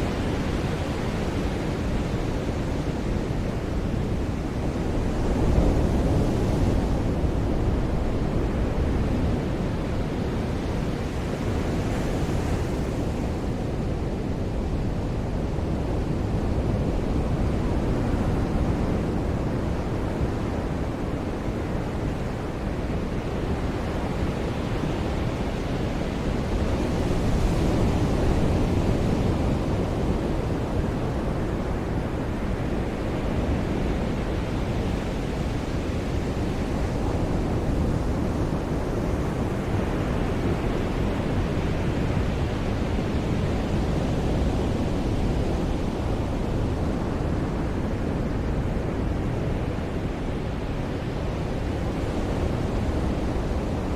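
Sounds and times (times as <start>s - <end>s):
ocean surf on beach: 0.0s - 53.9s.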